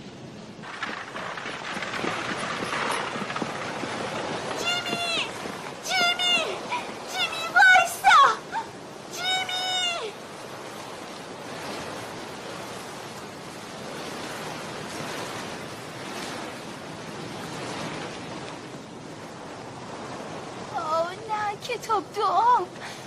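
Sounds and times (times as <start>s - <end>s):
wind blowing: 0.0s - 23.0s.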